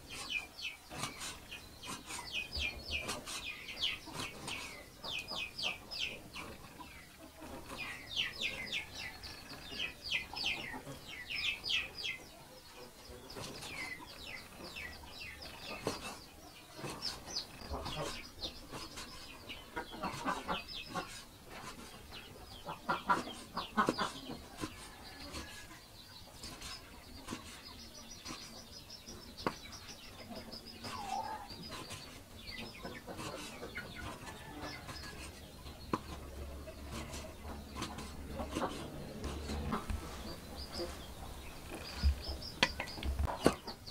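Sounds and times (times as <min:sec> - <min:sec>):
birds chirping: 0:00.0 - 0:43.9
chickens clucking: 0:00.0 - 0:43.9.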